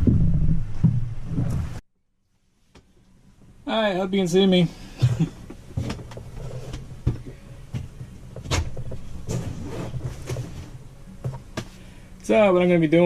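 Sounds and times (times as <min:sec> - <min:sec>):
low uneven hum: 0:02.5 - 0:13.0.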